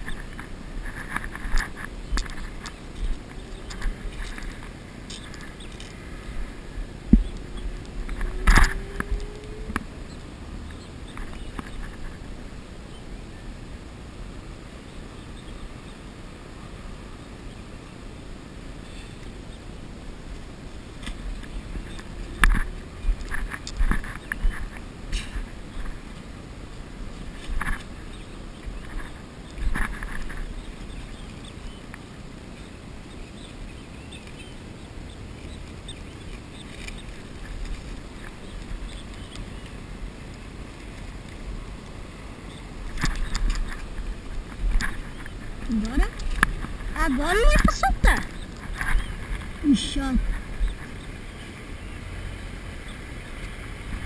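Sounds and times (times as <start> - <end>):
wind buffeting microphone: 0.0 - 17.2, 19.7 - 54.0.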